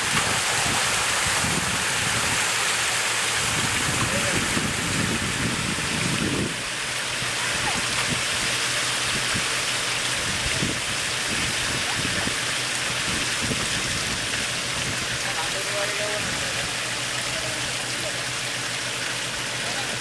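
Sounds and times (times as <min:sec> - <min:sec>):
water pouring and splashing: 0:00.0 - 0:20.0.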